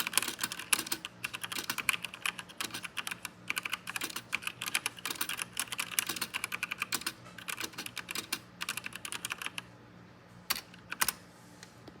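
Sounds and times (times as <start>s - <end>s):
mechanical keyboard typing: 0.0s - 9.7s, 10.5s - 11.2s.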